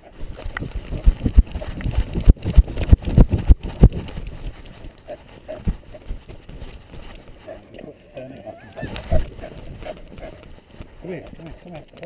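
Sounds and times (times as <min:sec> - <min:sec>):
dog strides thumping: 0:00.3 - 0:07.6, 0:08.9 - 0:11.4.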